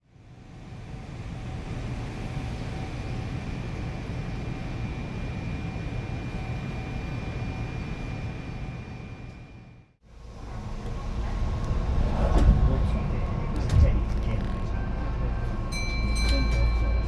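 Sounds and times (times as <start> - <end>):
electric train rumble: 0.2 - 17.0.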